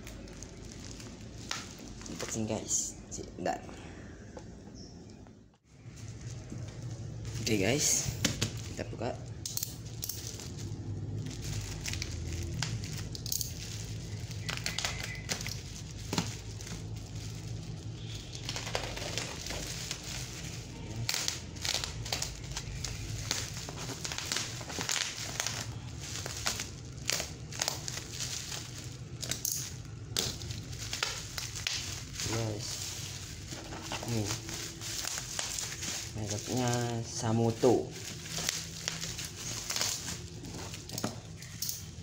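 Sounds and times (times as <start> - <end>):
plastic wrapping crinkling: 0.0 - 2.8, 5.7 - 42.0.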